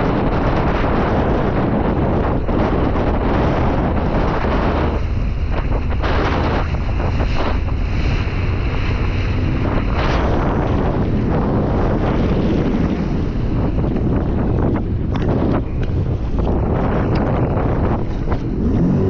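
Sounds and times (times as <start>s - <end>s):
rushing water: 0.0s - 19.0s
wind buffeting microphone: 0.0s - 19.0s.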